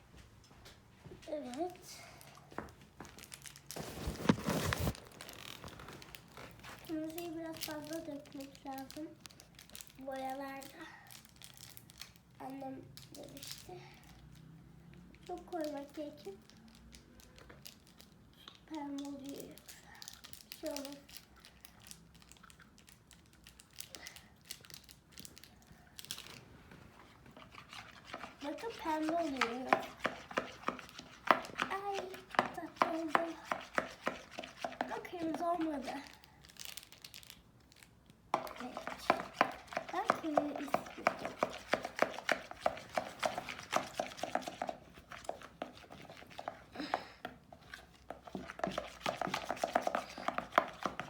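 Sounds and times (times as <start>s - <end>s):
slime squelching: 3.3s - 12.4s, 19.0s - 51.0s.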